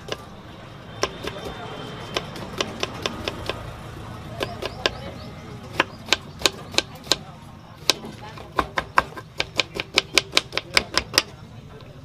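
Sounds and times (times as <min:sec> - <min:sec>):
knife chopping on wooden board: 0:01.0 - 0:03.7, 0:04.3 - 0:11.4.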